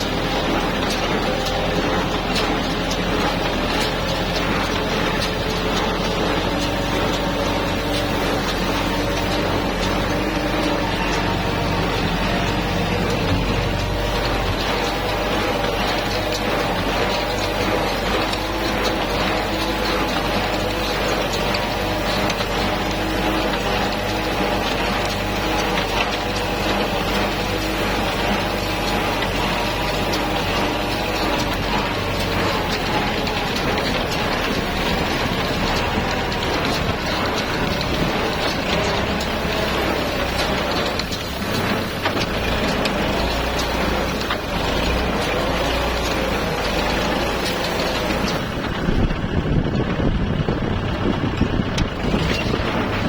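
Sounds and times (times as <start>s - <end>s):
hay baler clatter: 0.0s - 53.0s
sharp clicks and knocks: 0.0s - 53.0s
tractor engine running: 0.0s - 53.0s.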